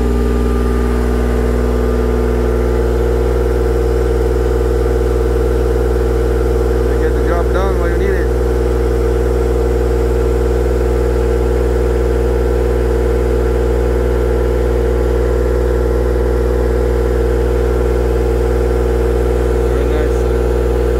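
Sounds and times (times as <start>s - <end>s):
welder engine running: 0.0s - 20.9s.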